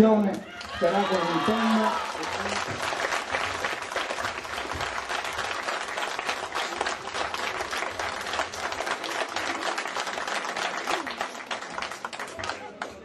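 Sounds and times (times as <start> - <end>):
audience applauding: 0.5 - 13.0.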